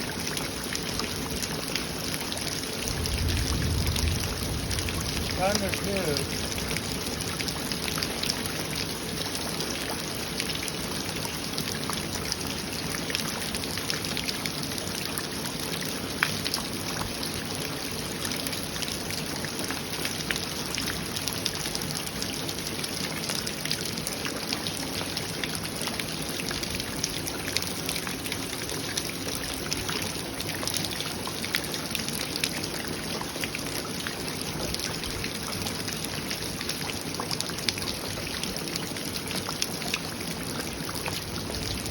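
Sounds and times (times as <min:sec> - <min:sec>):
trickling water: 0:00.0 - 0:41.9
heavy rain pouring: 0:00.1 - 0:41.9.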